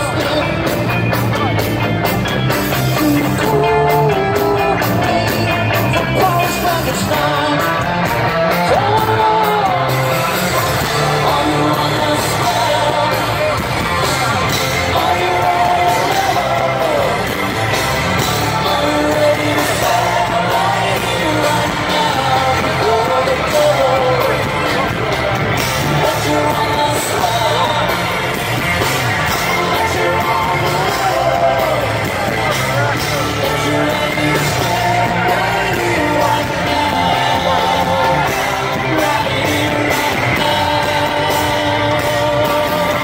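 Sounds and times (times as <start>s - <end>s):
live rock band playing: 0.0s - 43.0s
singer's voice: 0.0s - 43.0s.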